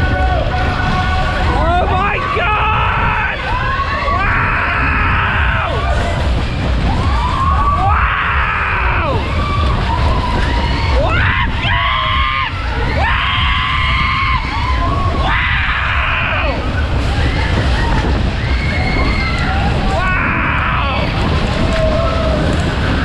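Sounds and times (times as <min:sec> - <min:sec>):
riders screaming and yelling: 0:00.0 - 0:23.0
wind buffeting camera: 0:00.0 - 0:23.0.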